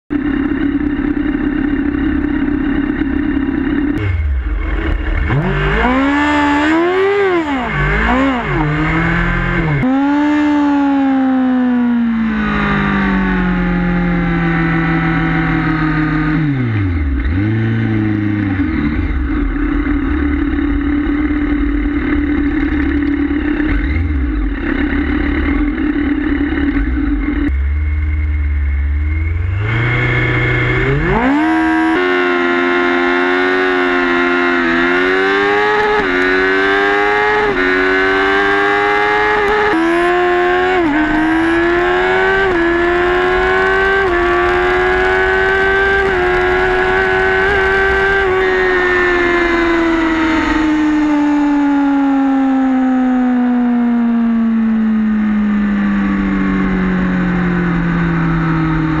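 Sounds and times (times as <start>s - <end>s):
motorcycle engine revving: 0.1s - 59.0s.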